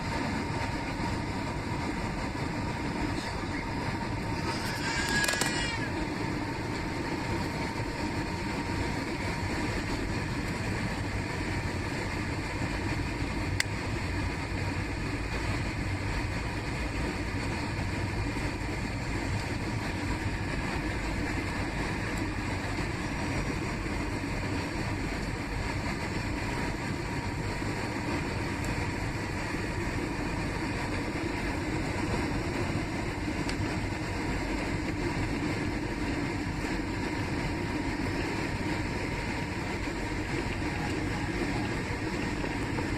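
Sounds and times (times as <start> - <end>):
airliner engine roar in cabin: 0.0 - 42.9.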